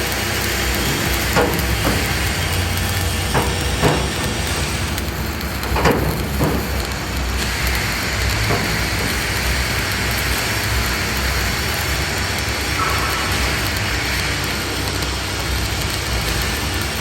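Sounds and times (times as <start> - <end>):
sharp welding pops: 0.0 - 17.0
welding arc crackling and sizzling: 0.0 - 17.0.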